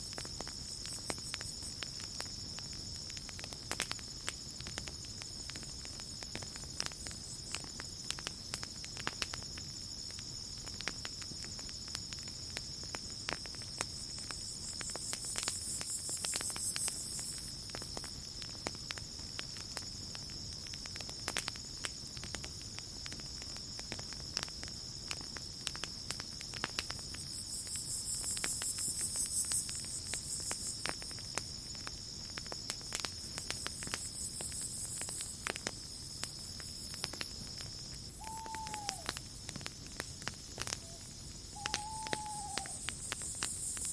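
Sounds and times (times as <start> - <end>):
campfire crackling and popping: 0.0 - 43.9
crickets trilling: 0.0 - 43.9.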